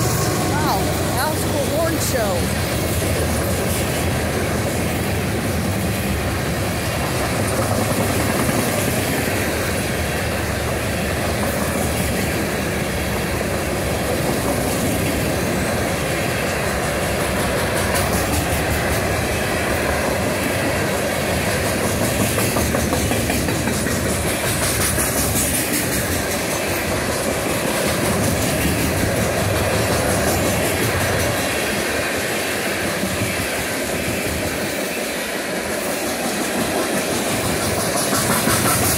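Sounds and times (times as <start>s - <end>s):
freight train cars rolling past: 0.0s - 38.9s
wheels clacking over rail joints: 0.0s - 38.9s.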